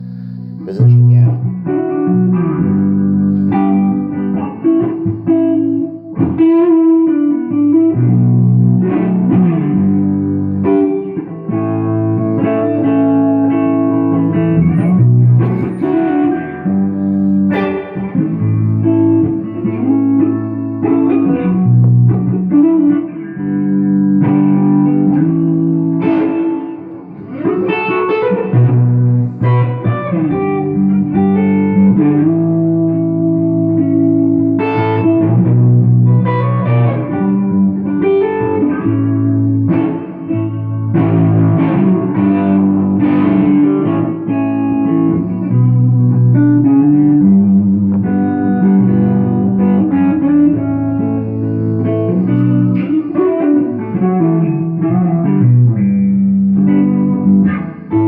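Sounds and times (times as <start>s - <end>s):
electric guitar chords and notes: 0.0s - 58.0s.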